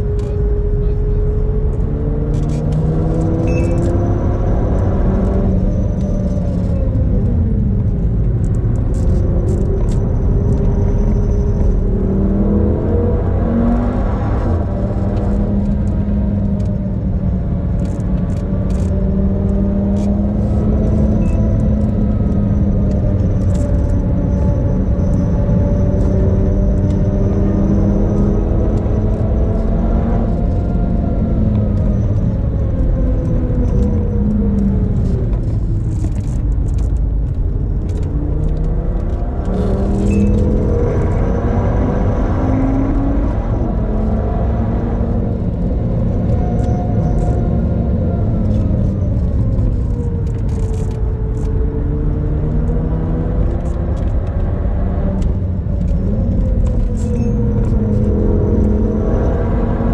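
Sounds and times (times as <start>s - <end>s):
car engine revving: 0.0s - 59.9s
road noise: 0.0s - 59.9s.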